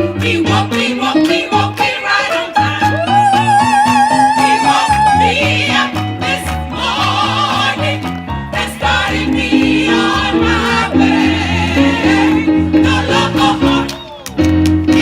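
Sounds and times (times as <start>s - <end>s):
gospel choir singing: 0.0s - 14.2s.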